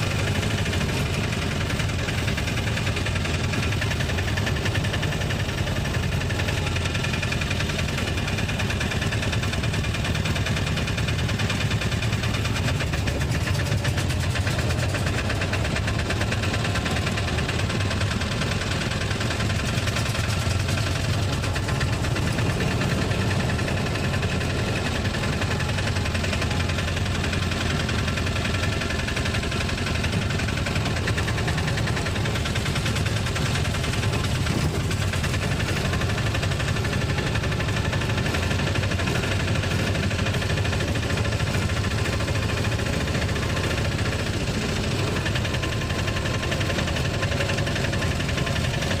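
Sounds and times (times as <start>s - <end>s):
auto-rickshaw engine running: 0.0s - 49.0s.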